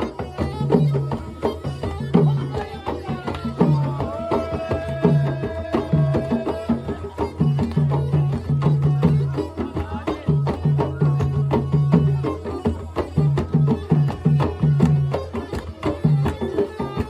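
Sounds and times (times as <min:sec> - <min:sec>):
folk tune with hand drums: 0:00.0 - 0:17.0.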